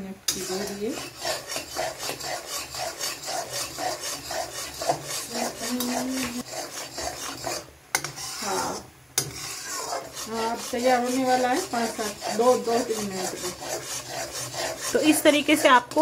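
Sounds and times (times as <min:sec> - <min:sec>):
spatula scraping metal pan: 0:00.3 - 0:16.0.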